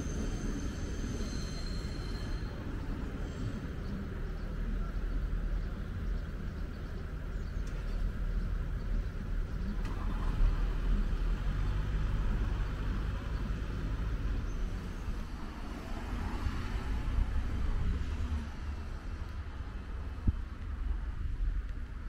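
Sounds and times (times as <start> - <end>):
low engine rumble: 2.5 - 22.0.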